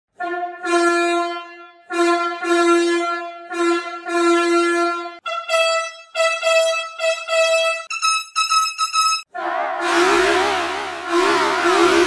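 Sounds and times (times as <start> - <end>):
truck air horn: 0.1 - 8.1, 9.7 - 12.0.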